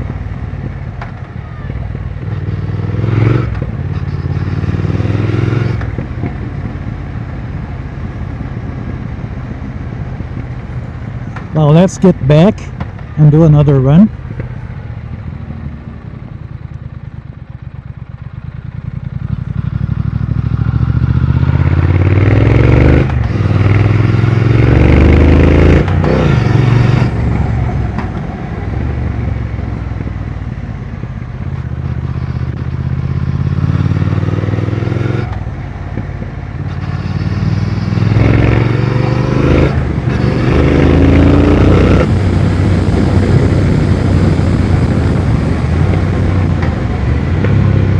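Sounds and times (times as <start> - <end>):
motorcycle engine accelerating: 0.0 - 11.8, 13.6 - 47.9.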